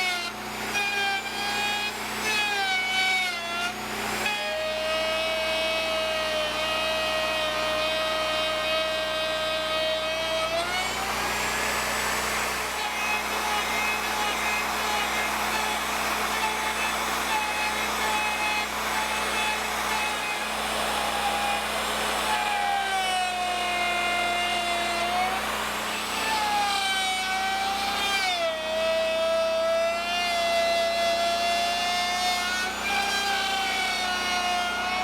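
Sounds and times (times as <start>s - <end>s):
bandsaw mill cutting a log: 0.0s - 35.0s.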